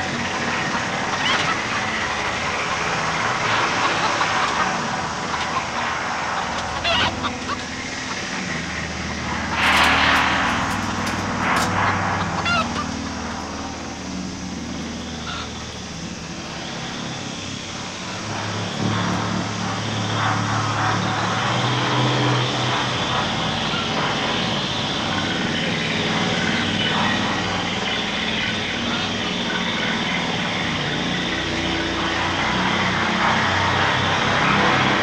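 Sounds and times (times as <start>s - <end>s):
dark droning film score: 0.0s - 35.0s.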